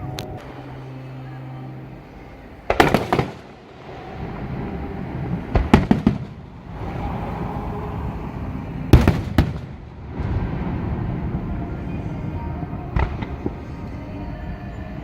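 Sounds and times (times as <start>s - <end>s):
fireworks bangs: 0.0s - 14.5s
low rumble: 0.0s - 15.0s.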